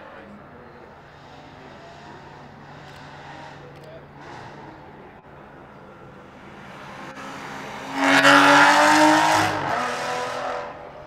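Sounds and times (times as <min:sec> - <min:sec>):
sports car accelerating past: 0:01.7 - 0:11.0.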